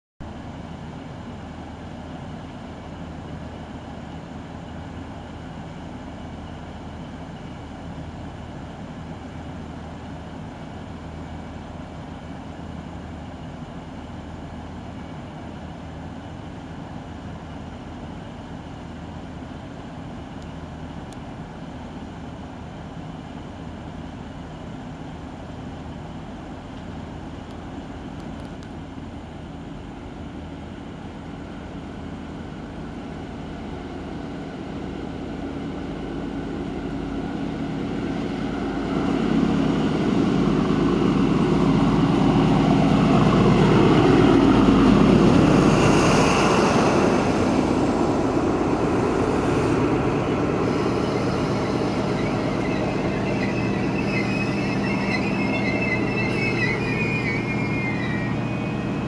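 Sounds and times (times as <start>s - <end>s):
idling diesel train engine: 0.2s - 59.0s.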